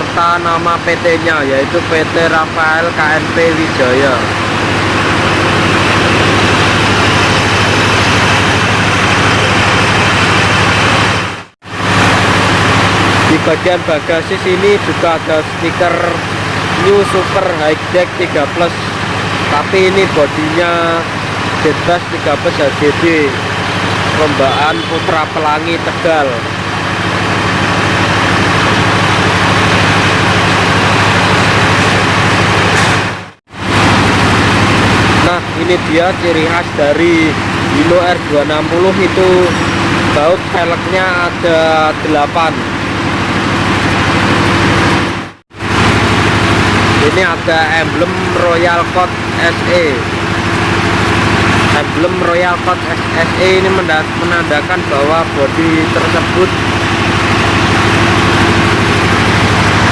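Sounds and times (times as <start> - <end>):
heavy diesel engine idling: 0.0 - 59.9.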